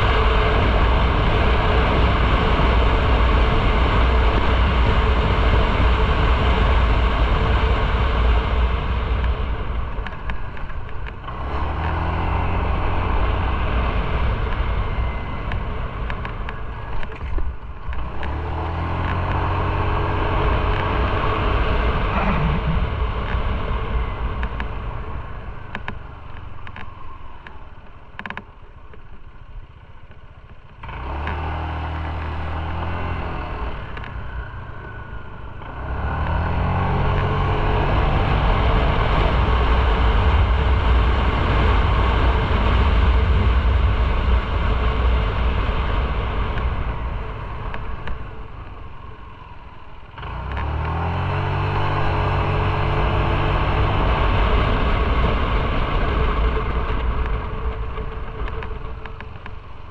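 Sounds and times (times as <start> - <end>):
motorcycle engine: 0.0 - 59.9
wind noise: 0.0 - 59.9.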